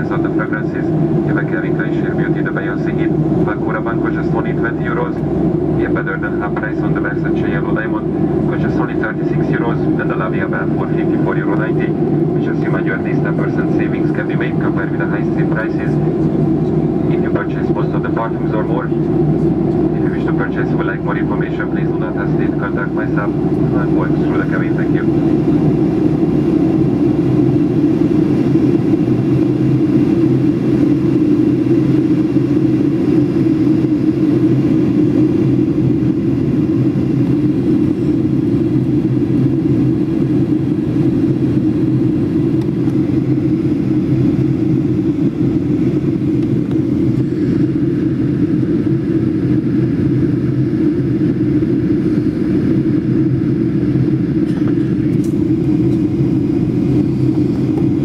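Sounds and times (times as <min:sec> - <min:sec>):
airliner cabin drone: 0:00.0 - 0:58.0
faint higher hum: 0:00.0 - 0:58.0.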